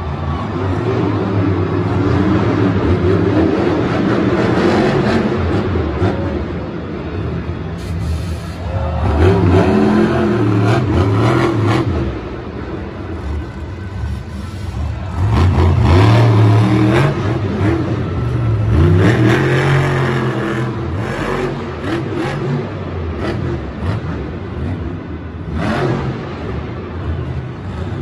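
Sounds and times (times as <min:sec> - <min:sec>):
monster truck engines revving: 0:00.0 - 0:28.0.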